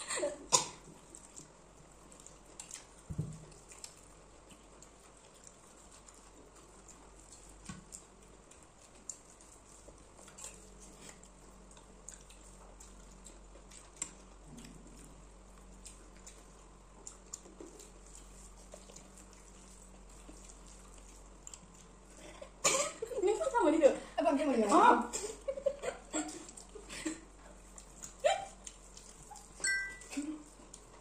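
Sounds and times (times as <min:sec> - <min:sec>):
soft chewing: 0:00.0 - 0:31.0.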